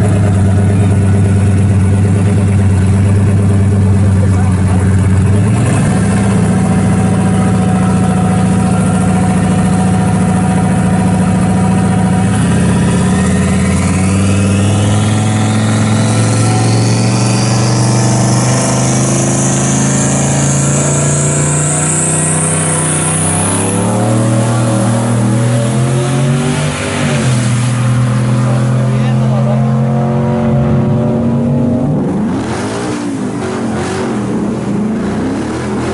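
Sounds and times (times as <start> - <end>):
truck engine revving: 0.0 - 35.9.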